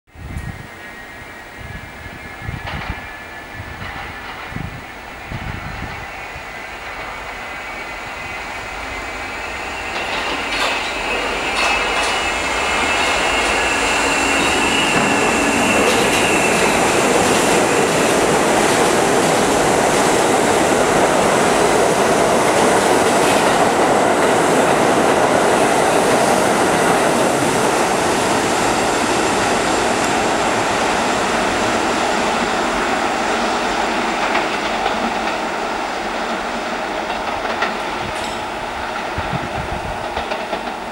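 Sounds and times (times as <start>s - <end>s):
steel wheels rushing on rail: 0.2s - 40.9s.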